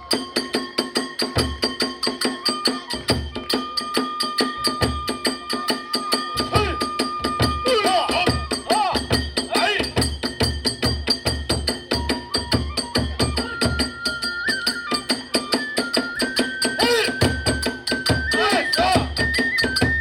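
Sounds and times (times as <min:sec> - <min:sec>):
flute holding long notes: 0:00.0 - 0:08.6, 0:11.9 - 0:20.0
drum beat: 0:00.0 - 0:14.0, 0:15.0 - 0:20.0
hand cymbal strikes: 0:00.0 - 0:20.0.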